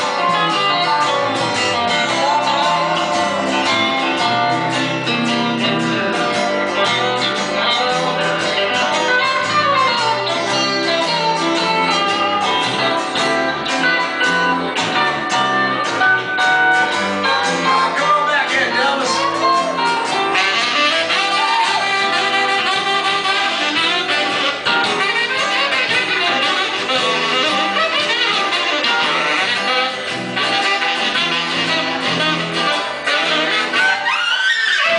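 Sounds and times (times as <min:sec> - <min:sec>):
live band playing: 0:00.0 - 0:34.9
saxophone: 0:00.0 - 0:34.9.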